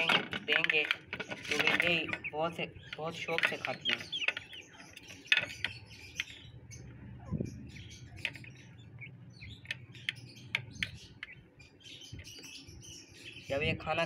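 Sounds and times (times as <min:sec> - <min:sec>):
high bird chirps: 0:01.2 - 0:13.7.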